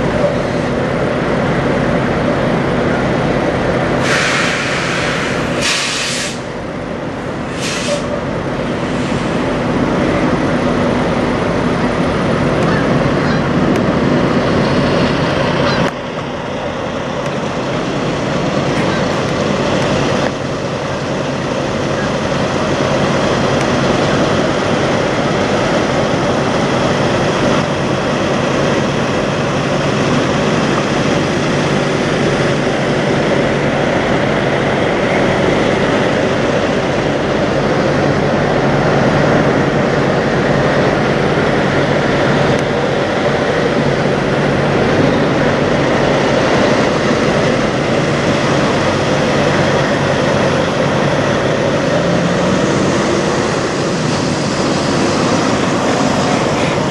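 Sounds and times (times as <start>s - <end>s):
diesel truck engines idling: 0.0s - 56.9s.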